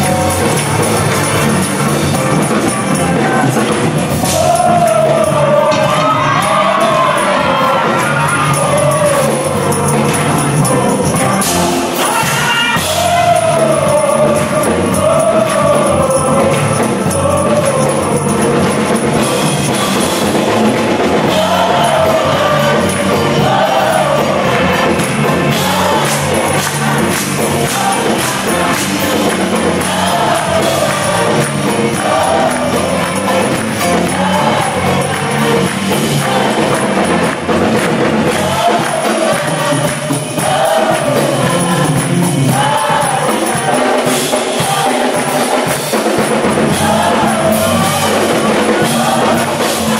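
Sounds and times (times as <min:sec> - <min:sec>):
choir singing gospel song: 0:00.0 - 0:49.9
live band with drum kit: 0:00.0 - 0:49.9.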